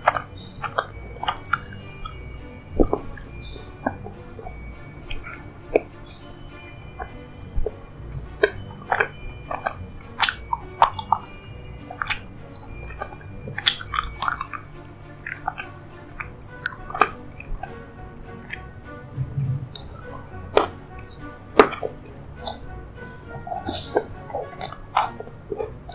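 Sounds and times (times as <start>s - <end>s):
wet chewing mouth sounds: 0.0s - 6.3s, 7.0s - 17.8s, 19.5s - 25.9s
quiet background music: 0.0s - 25.9s.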